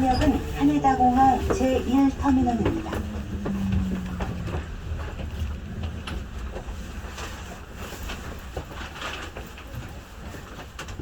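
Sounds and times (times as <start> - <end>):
monorail train rumbling: 0.0 - 11.0.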